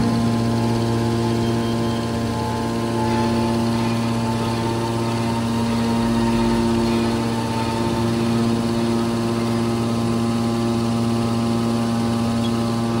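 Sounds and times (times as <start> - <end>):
hydraulic machine humming: 0.0 - 13.0.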